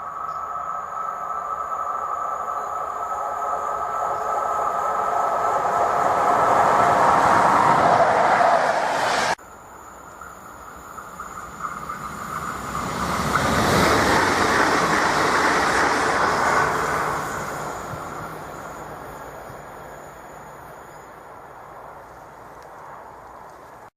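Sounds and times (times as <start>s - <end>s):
train passing: 0.0s - 23.9s.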